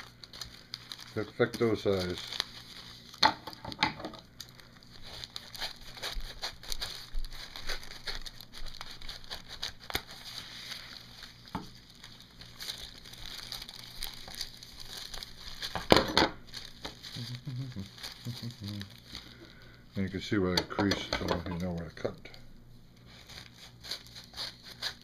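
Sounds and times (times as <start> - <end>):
wax paper crinkling: 0.0 - 3.6, 4.2 - 25.0.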